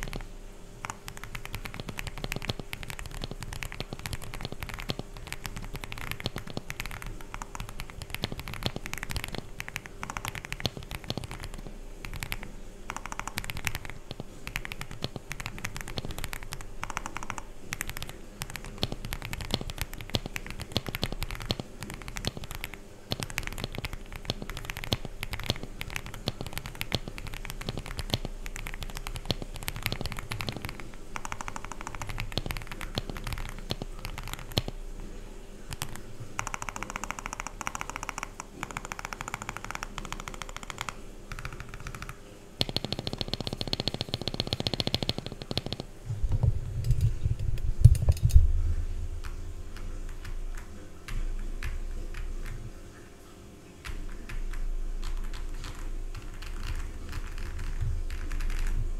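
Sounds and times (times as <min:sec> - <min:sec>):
mechanical keyboard typing: 0:00.0 - 0:34.8, 0:35.7 - 0:47.1, 0:53.8 - 0:58.9.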